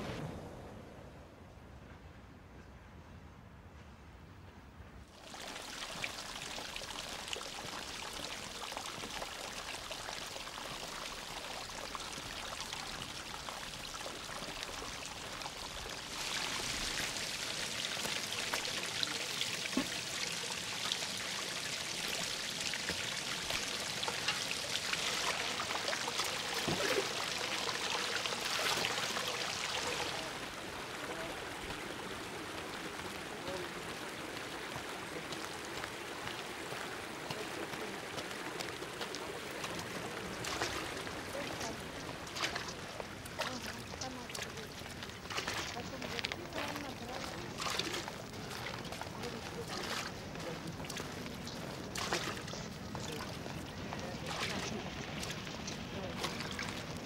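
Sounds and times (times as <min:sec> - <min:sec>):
water gushing and splashing: 0:05.1 - 0:57.0.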